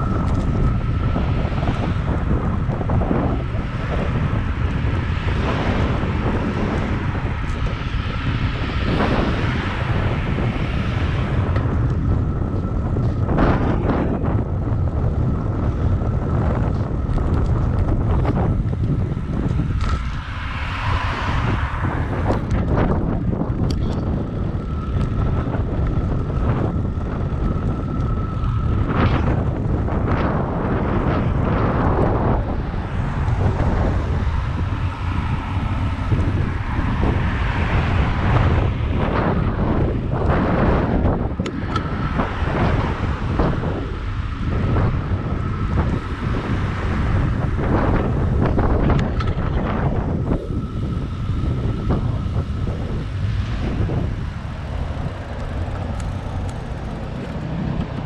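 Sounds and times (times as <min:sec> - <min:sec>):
city traffic: 0:00.0 - 0:58.0
wind rumbling on microphone: 0:00.0 - 0:58.0.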